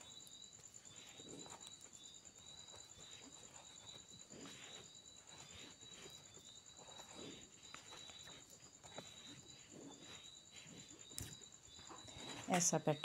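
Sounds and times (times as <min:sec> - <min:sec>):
rustling of yarn and needles: 0:00.0 - 0:13.0.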